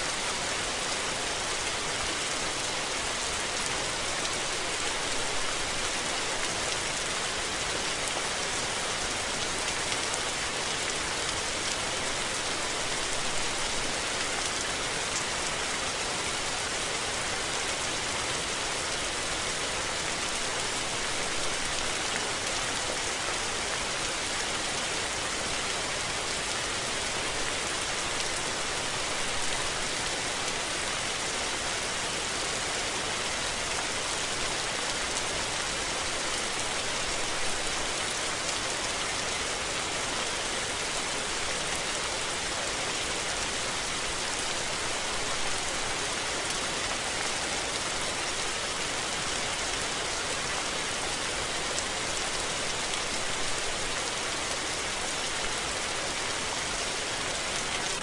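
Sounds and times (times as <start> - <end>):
rain hissing on surfaces: 0.0 - 58.0.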